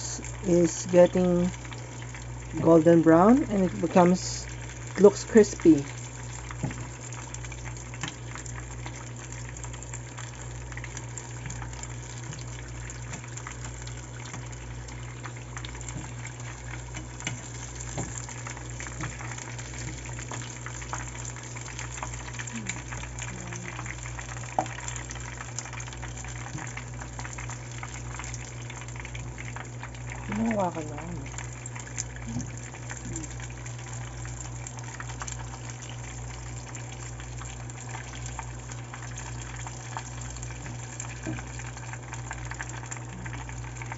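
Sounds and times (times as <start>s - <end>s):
deep-frying sizzle with pops: 0.0s - 43.9s
steady low hum: 0.0s - 43.9s.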